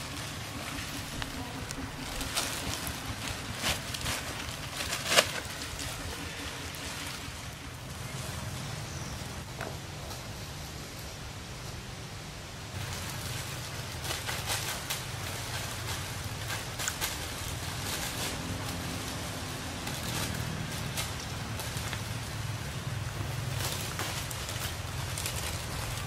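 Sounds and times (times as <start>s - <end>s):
leaves and twigs rustling: 0.0s - 26.0s
steady low rumble: 0.0s - 26.0s.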